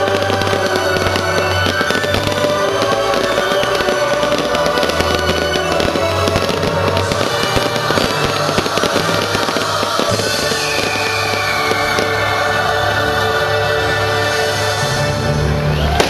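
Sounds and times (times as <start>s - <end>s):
fireworks bursting and crackling: 0.0s - 16.0s
soundtrack music: 0.0s - 16.0s.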